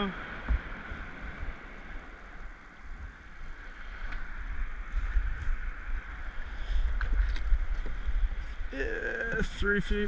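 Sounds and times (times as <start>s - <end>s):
paddling water sounds: 0.0s - 10.0s
wind on microphone: 0.0s - 10.0s.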